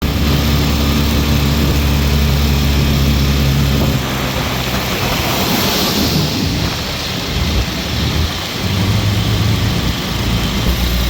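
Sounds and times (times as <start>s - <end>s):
heavy rain pouring: 0.0s - 11.0s
low engine-like hum: 0.0s - 11.0s.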